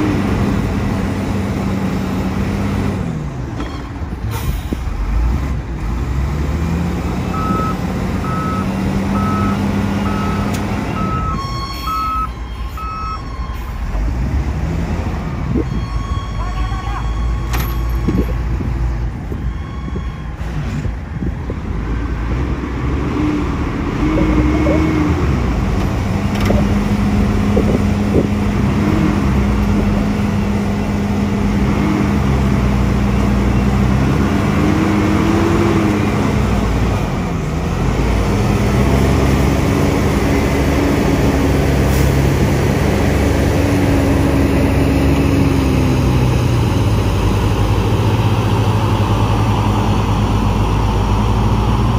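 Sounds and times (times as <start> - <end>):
heavy diesel engines under load: 0.0 - 51.9.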